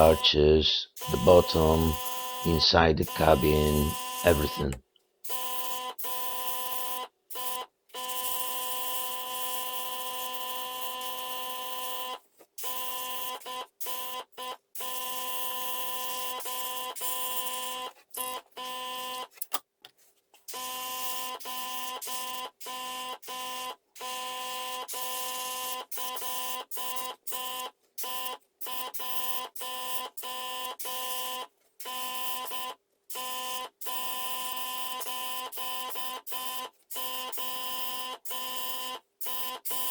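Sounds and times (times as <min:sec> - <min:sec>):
small electric motor humming: 0:01.0 - 0:04.6, 0:05.3 - 0:19.3, 0:20.5 - 0:39.9.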